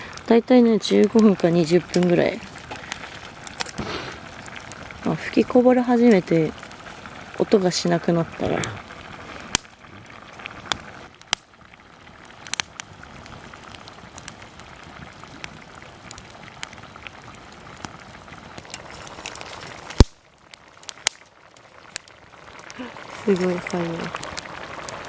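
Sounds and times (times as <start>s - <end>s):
fire crackling: 0.0s - 25.0s
pot of rice boiling: 0.0s - 25.0s.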